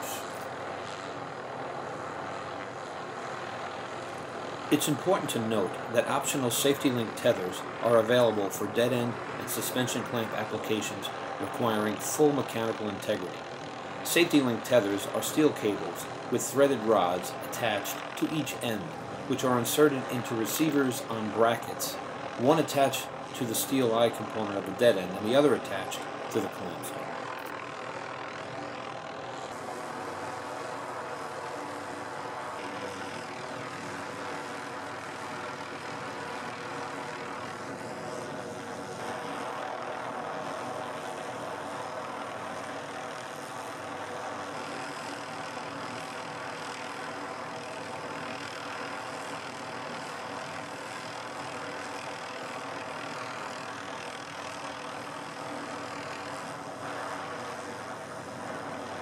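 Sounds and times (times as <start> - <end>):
helicopter hovering drone: 0.0 - 59.0.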